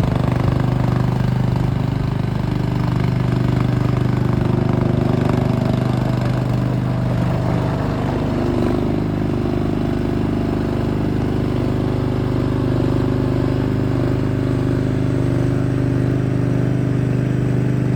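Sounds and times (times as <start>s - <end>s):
gasoline engine running: 0.0s - 17.9s.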